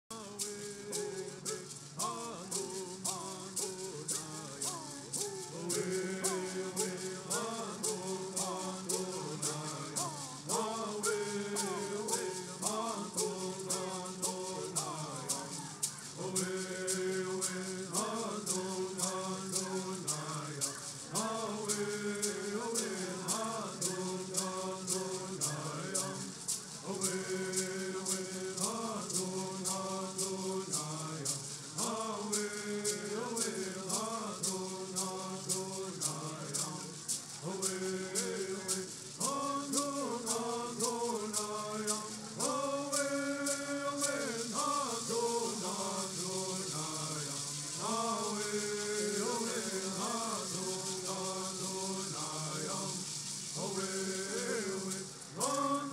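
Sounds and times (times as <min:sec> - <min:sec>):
men singing in unison: 0:00.0 - 0:55.9
gourd rattles shaking: 0:00.1 - 0:55.9.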